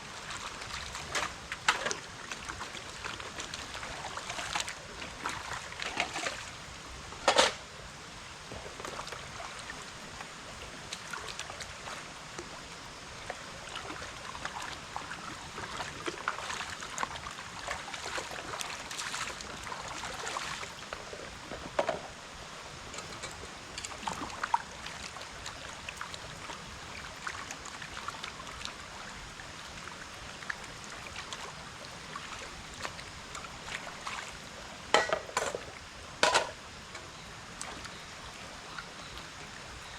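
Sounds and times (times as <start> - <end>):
water trickling: 0.0 - 39.9
small splashes and clicks: 0.2 - 6.6, 8.5 - 22.2, 22.9 - 38.1.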